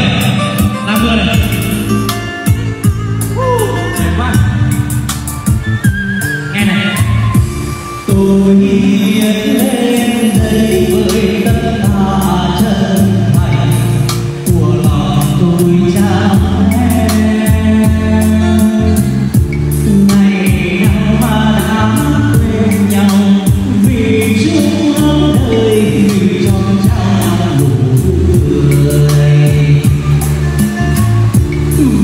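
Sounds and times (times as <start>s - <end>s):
backing track with steady beat: 0.0s - 32.0s
man singing karaoke with echo: 0.0s - 32.0s.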